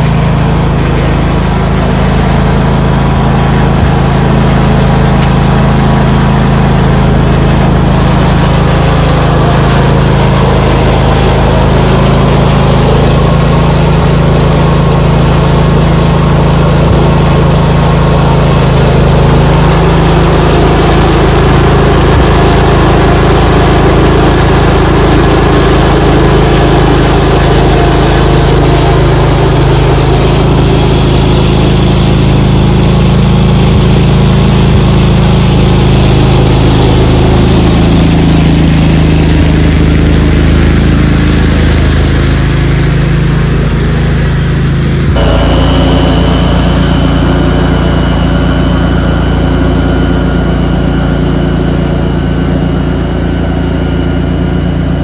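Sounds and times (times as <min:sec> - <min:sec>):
garden tractor engine running: 0:00.0 - 0:55.0
steady high whine: 0:00.0 - 0:55.0.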